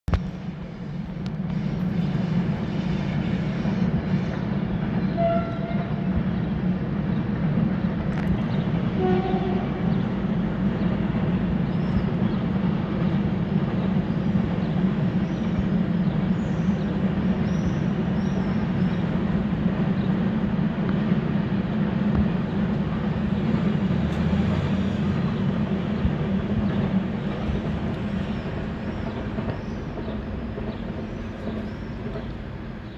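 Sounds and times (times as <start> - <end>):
freight train rumbling on rails: 0.1 - 32.9.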